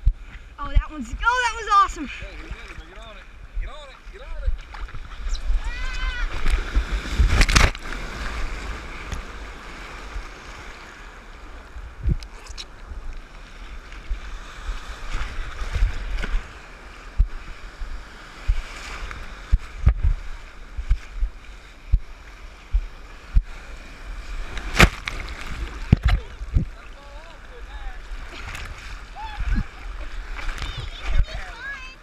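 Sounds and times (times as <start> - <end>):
water splashing against camera: 0.0 - 9.3, 15.0 - 32.0
wind on microphone: 0.0 - 26.9, 27.8 - 31.8
ocean surf sloshing: 0.0 - 32.0.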